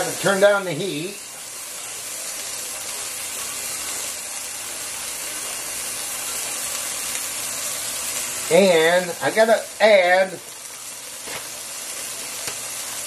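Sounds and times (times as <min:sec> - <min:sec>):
soup simmering with steady hiss: 0:00.0 - 0:13.0.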